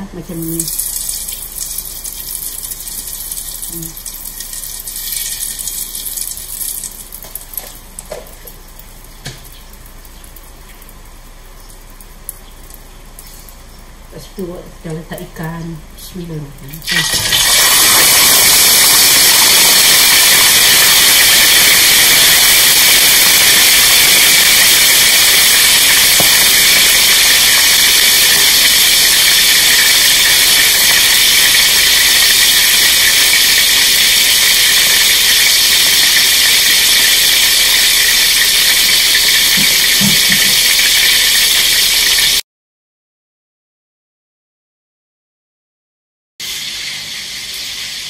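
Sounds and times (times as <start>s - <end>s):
fish sizzling in hot oil: 0.3s - 14.0s, 16.8s - 42.4s, 46.4s - 48.0s.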